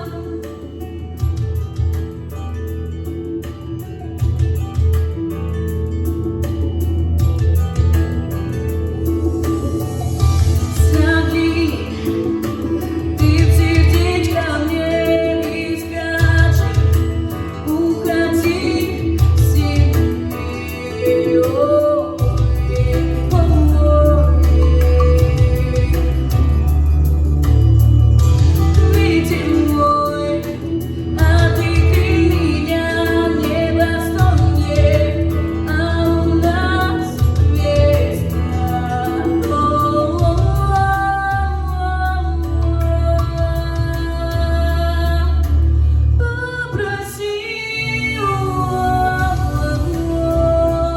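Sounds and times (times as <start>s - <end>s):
woman singing: 0.0s - 4.0s, 9.0s - 27.6s, 28.2s - 50.9s
backing track with bass line: 0.0s - 50.9s.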